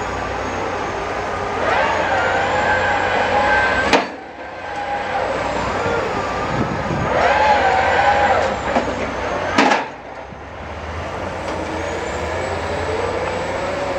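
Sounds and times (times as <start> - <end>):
construction machinery diesel rumble: 0.0 - 13.9
machinery whining tone: 0.0 - 13.9.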